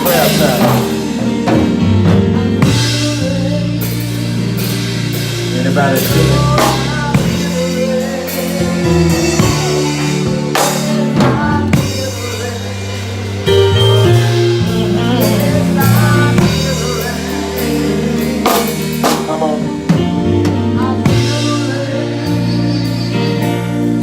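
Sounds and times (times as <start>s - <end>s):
bass: 0.0s - 24.0s
drum kit with cymbal crashes: 0.0s - 24.0s
held keyboard chords: 0.0s - 24.0s
person singing: 0.0s - 24.0s.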